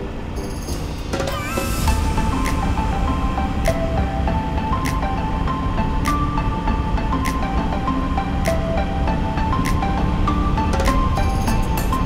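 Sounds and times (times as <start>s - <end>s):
melody with light percussive beat: 0.4s - 12.0s
steady low rumble: 1.8s - 12.0s.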